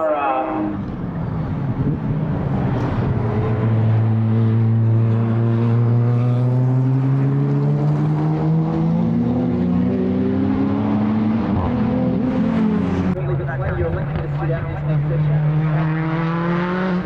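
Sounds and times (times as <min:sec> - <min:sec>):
race car engine accelerating: 0:01.5 - 0:17.0.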